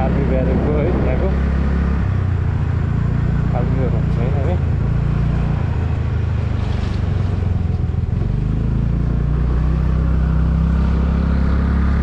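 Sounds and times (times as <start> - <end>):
wind noise: 0.0 - 3.4, 4.4 - 12.0
motorcycle engine running: 0.0 - 12.0.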